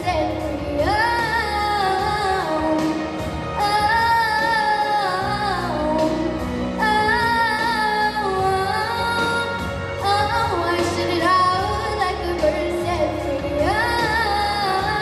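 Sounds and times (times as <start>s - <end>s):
pop backing track: 0.0s - 15.0s.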